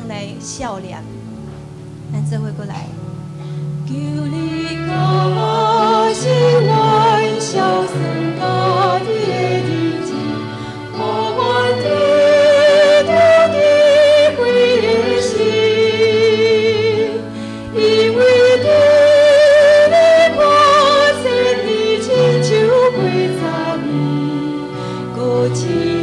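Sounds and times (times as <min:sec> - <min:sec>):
instrumental accompaniment: 0:00.0 - 0:26.0
woman singing into a microphone: 0:03.9 - 0:26.0.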